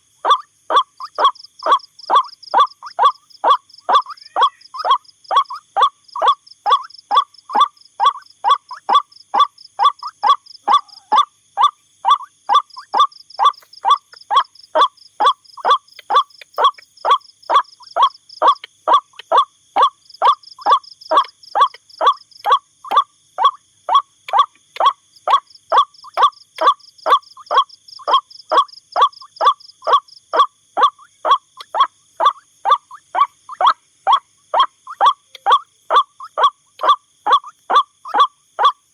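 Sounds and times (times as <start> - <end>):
waterhen calling: 0.0 - 11.2, 12.1 - 38.8.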